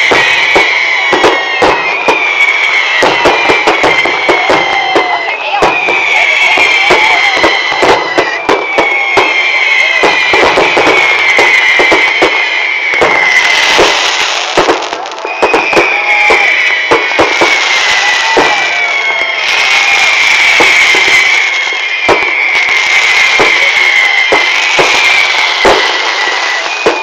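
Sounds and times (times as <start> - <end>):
falling firework whistles: 0.0 - 27.0
fireworks bangs and crackles: 0.0 - 27.0.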